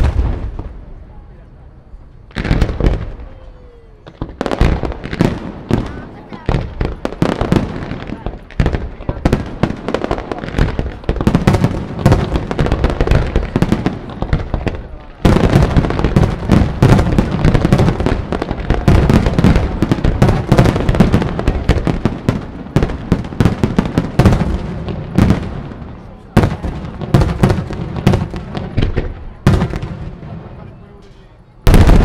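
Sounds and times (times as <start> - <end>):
fireworks bursting and crackling: 0.0 - 1.5, 2.2 - 32.0.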